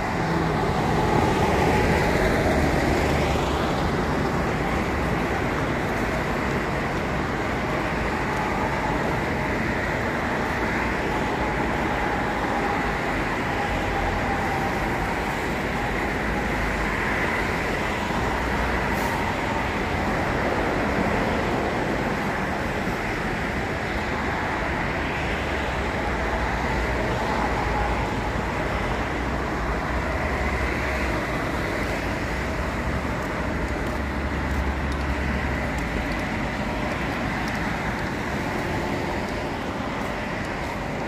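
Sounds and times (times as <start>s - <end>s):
road traffic on wet road: 0.0s - 41.0s.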